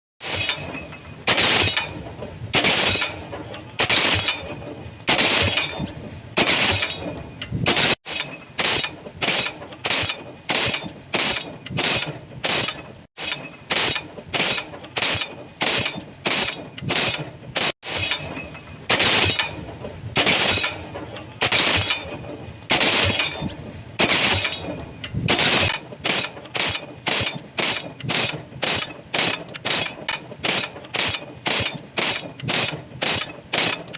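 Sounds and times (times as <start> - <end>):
pile driver hammering: 2.6 - 33.9.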